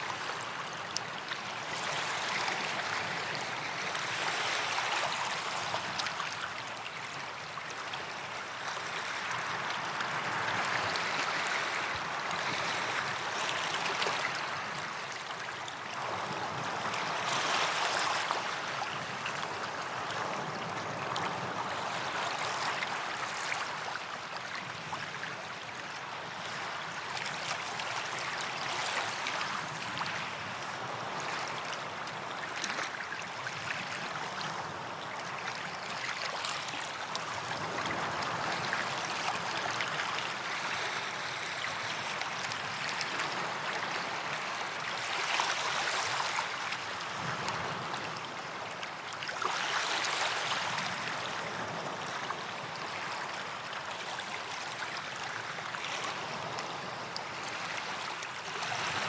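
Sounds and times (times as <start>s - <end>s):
sea waves washing on beach: 8.1s - 59.0s.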